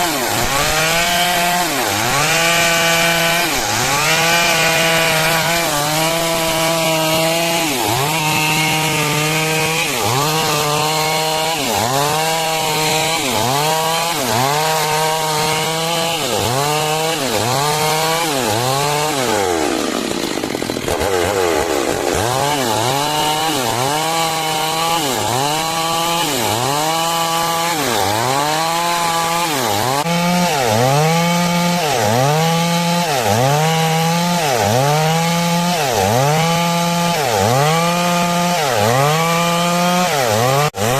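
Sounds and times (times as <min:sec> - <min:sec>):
chainsaw cutting through wood: 0:00.0 - 0:40.9.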